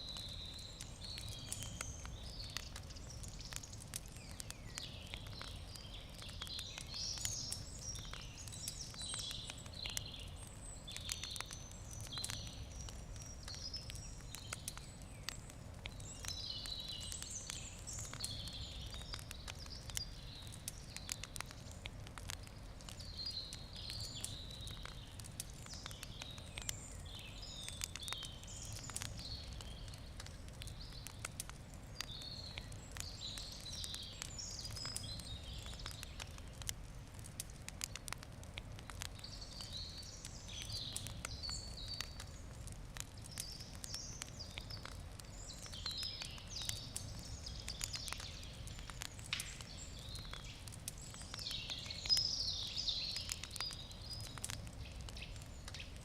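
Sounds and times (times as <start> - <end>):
campfire crackling and popping: 0.0 - 56.0
small birds chirping: 0.0 - 56.0.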